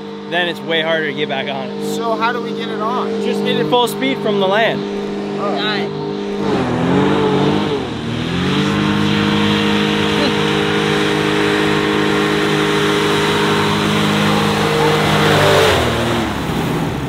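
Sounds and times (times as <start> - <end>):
hovercraft engine and fan running: 0.0 - 17.0.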